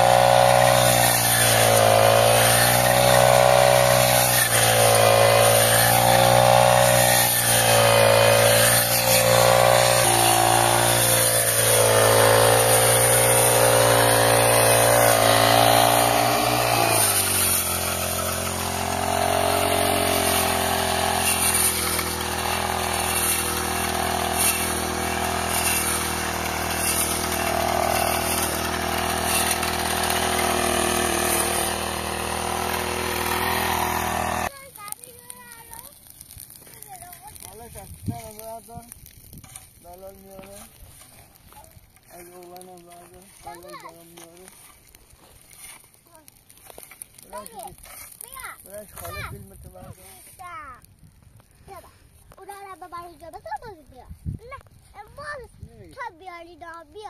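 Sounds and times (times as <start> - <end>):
brush cutter engine running: 0.0 - 34.5, 35.3 - 50.4.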